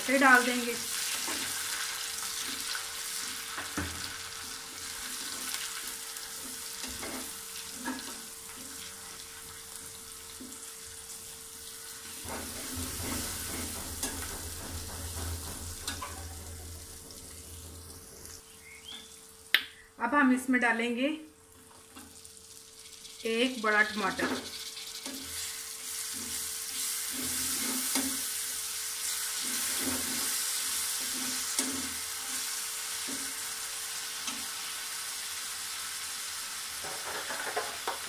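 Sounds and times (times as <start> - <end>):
onions sizzling in hot oil: 0.0 - 19.5, 21.4 - 38.0.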